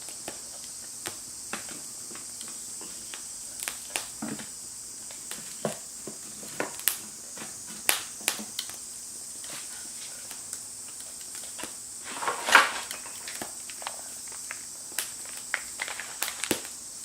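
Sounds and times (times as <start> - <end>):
steady high hiss: 0.0 - 17.0
wood fire popping and snapping: 0.0 - 17.0.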